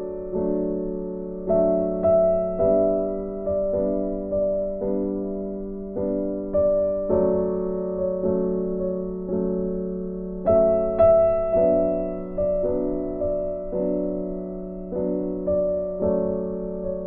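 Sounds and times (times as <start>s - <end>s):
soft slow piano chords: 0.0s - 17.0s.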